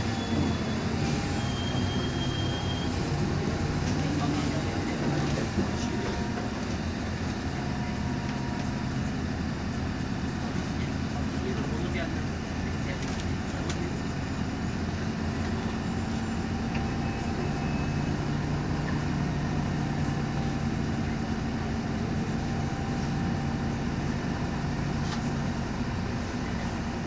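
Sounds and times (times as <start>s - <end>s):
bus engine low drone: 0.0s - 27.0s.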